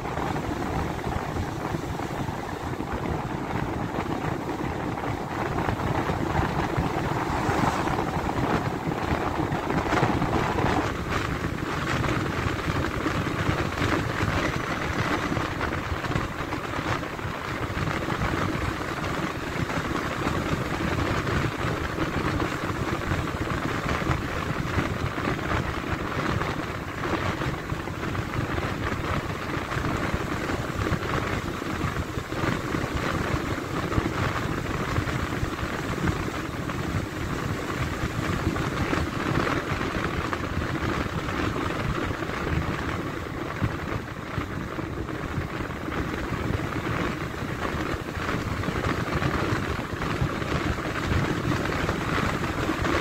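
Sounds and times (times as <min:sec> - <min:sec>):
vehicle rumble: 0:00.0 - 0:53.0
wind noise on microphone: 0:00.0 - 0:53.0.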